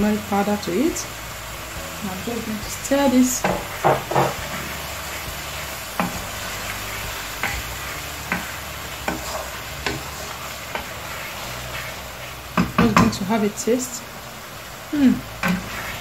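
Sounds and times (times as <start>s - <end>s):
wooden spoon scraping a pan: 0.0s - 13.4s, 15.4s - 16.0s
sauce sizzling in a frying pan: 0.0s - 16.0s.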